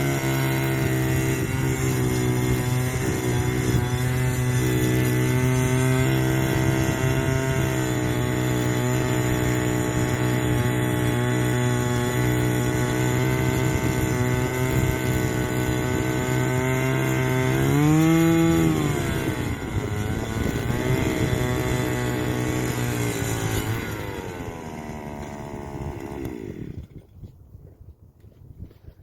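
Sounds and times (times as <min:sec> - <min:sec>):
ice auger engine drilling: 0:00.0 - 0:27.2.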